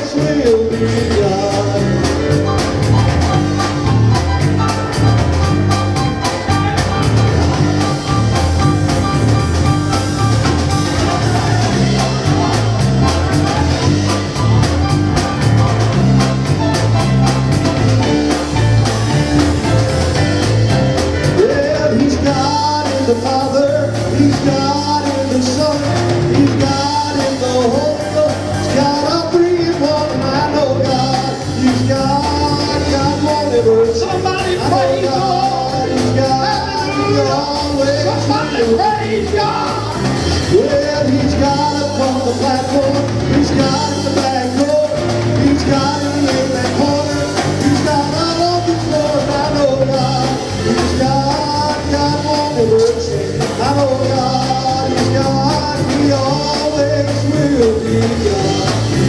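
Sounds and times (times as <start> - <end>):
person singing: 0.0 - 18.3, 20.1 - 59.0
live band with drums and guitars: 0.0 - 59.0.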